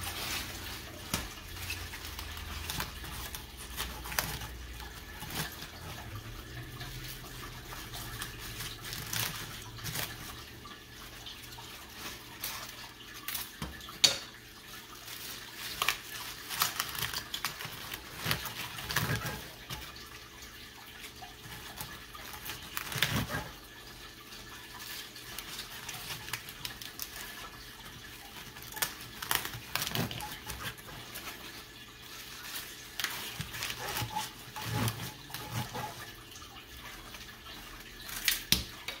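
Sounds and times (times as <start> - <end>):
wet leaves crackling and rustling: 0.0 - 39.0.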